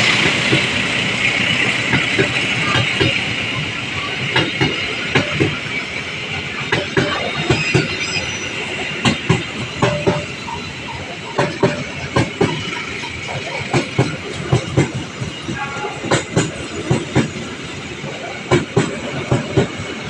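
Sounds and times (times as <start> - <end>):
train running noise: 0.0 - 20.0
train wheels clacking over rail joints: 0.0 - 20.0.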